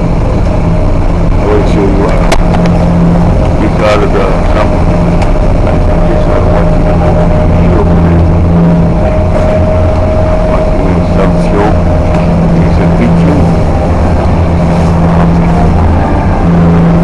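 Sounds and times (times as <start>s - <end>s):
constant higher hum: 0.0s - 17.0s
ship engines droning: 0.0s - 17.0s.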